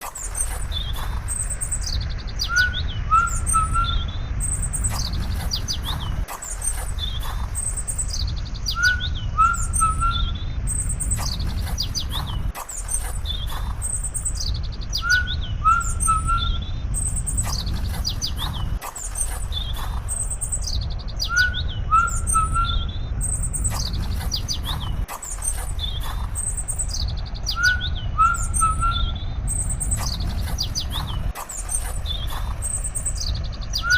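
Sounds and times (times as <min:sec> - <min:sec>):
birds chirping and singing: 0:00.0 - 0:33.9
low rumble: 0:00.0 - 0:33.9.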